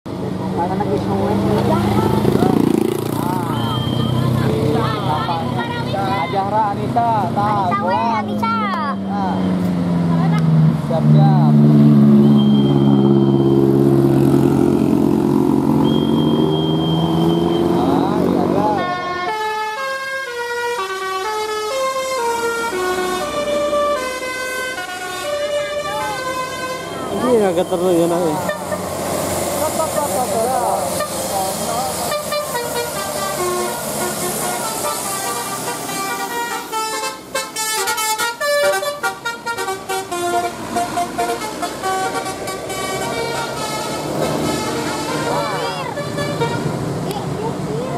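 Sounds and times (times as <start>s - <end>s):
bus diesel engine drone: 0.1s - 47.9s.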